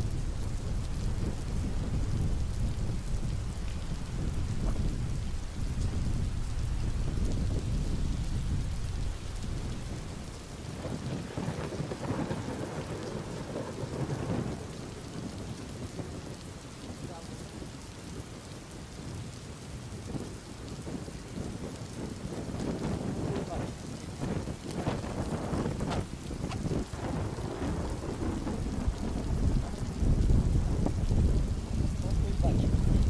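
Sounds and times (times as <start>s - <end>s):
thunder rumble: 0.0s - 18.3s, 19.9s - 33.0s
rushing hiss of rain: 0.0s - 33.0s.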